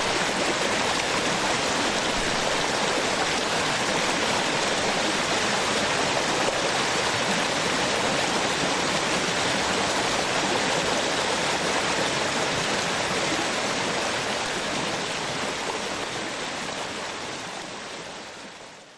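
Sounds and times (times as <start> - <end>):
small waterfall rushing: 0.0 - 18.9.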